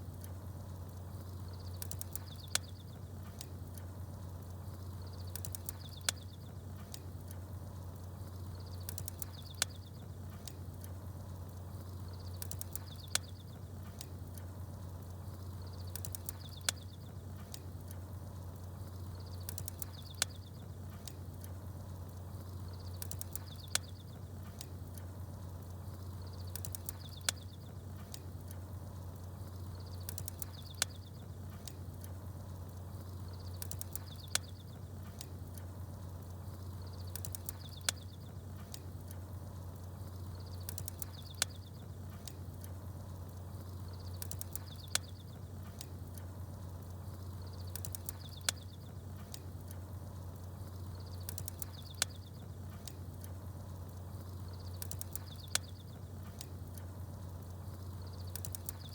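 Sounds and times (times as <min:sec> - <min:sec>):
campfire crackling: 0:00.0 - 0:58.9
small birds chirping: 0:00.0 - 0:58.9
steady low hum: 0:00.0 - 0:58.9.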